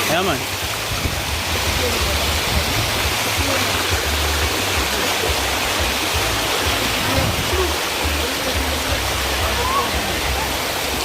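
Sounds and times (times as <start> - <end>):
water cascading down waterfall: 0.0 - 11.0.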